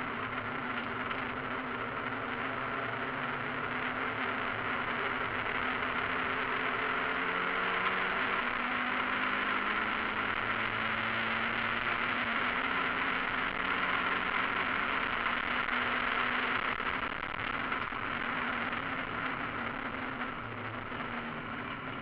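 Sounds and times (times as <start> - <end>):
car engine running hard: 0.0 - 22.0
wind and road noise: 0.0 - 22.0.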